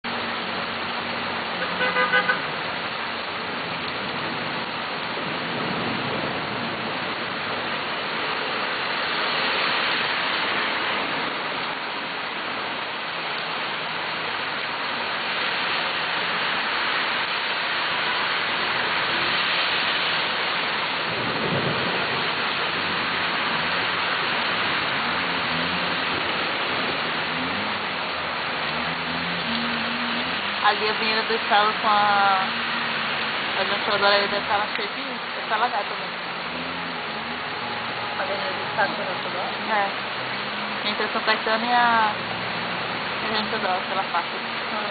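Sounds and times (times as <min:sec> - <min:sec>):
rain falling steadily: 0:00.0 - 0:44.9.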